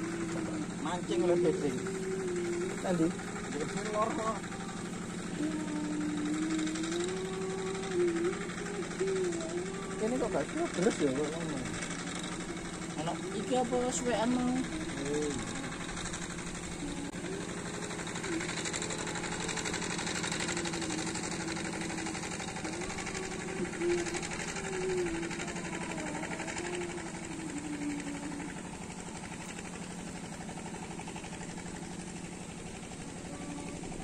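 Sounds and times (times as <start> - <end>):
small boat engine running: 0.0 - 34.0
wavering tone: 0.0 - 34.0.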